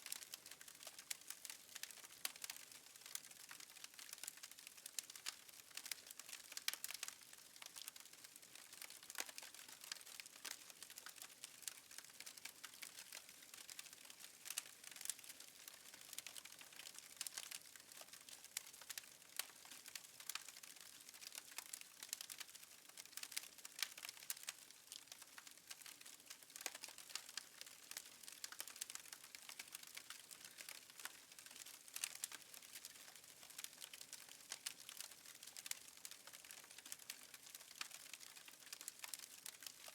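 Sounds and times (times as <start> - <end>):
wood fire crackling with pops: 0.0 - 39.9.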